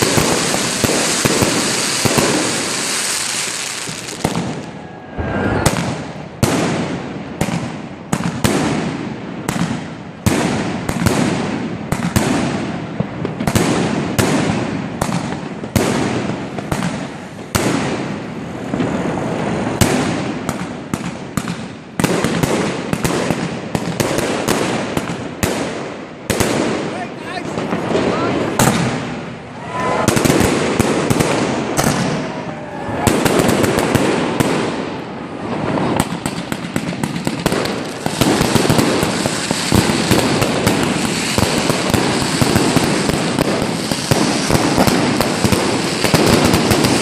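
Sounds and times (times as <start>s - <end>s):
fireworks bangs with echo: 0.0s - 47.0s.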